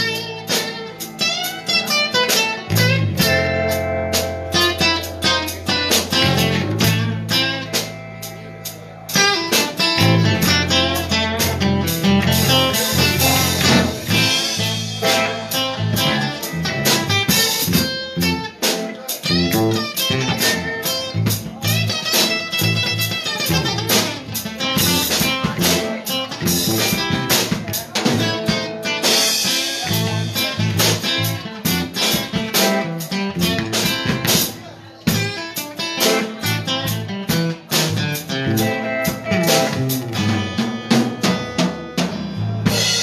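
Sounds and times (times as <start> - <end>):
live blues band playing: 0.0 - 43.0.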